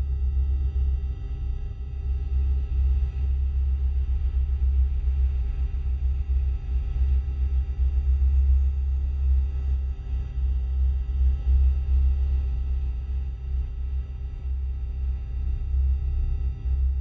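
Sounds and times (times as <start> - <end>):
deep wavering low hum: 0.0 - 17.0.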